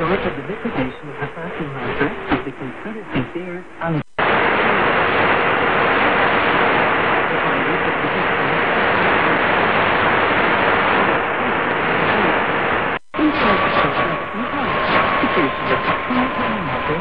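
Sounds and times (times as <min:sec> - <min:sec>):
faint radio speech: 0:00.0 - 0:05.2, 0:06.9 - 0:09.6, 0:11.0 - 0:17.0
heavy radio static: 0:00.0 - 0:17.0.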